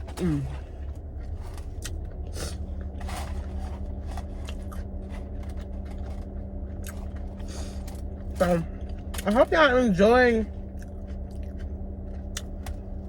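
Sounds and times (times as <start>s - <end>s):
crunchy bites and chewing: 0.0s - 9.4s, 10.6s - 13.0s
steady low hum: 0.0s - 13.0s.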